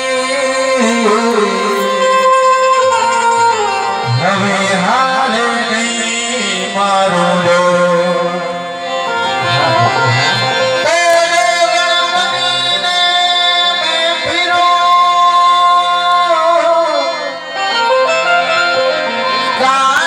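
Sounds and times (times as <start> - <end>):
singing voice: 0.0 - 18.0, 19.2 - 20.0
instrumental accompaniment: 0.0 - 20.0.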